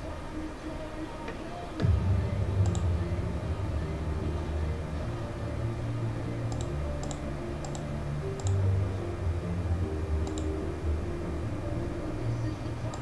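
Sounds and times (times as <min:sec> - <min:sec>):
low held background tones: 0:00.0 - 0:13.0.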